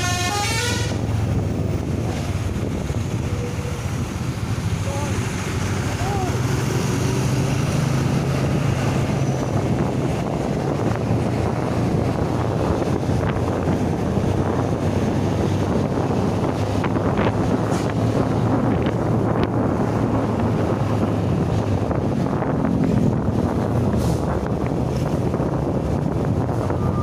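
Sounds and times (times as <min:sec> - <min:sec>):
vehicle engine drone: 0:00.0 - 0:27.0
wind buffeting microphone: 0:00.0 - 0:27.0.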